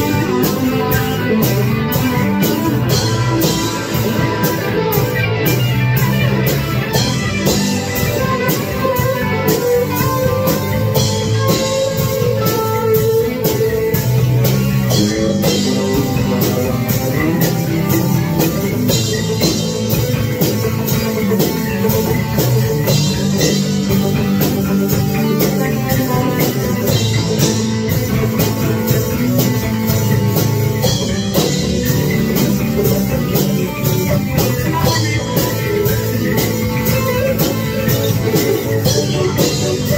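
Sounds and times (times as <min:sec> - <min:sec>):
electric guitar rock jam: 0:00.0 - 0:39.9
steady drum beat: 0:00.0 - 0:39.9.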